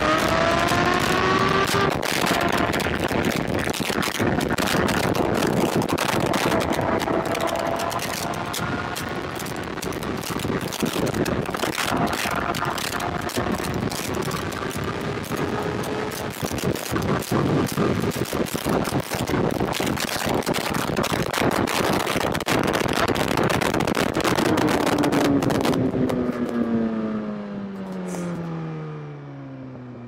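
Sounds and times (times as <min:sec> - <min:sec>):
motorcycle engine running: 0:00.0 - 0:21.4, 0:22.0 - 0:30.0
wind buffeting microphone: 0:00.0 - 0:26.5.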